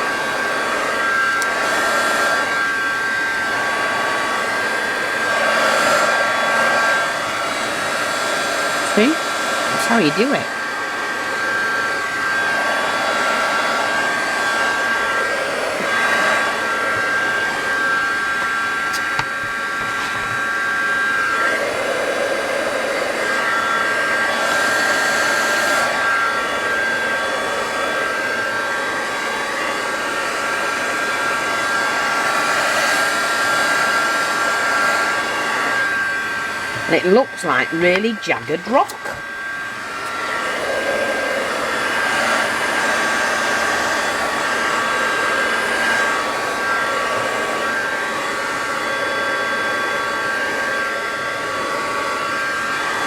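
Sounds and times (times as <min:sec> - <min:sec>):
heat gun blowing hot air: 0:00.0 - 0:53.0.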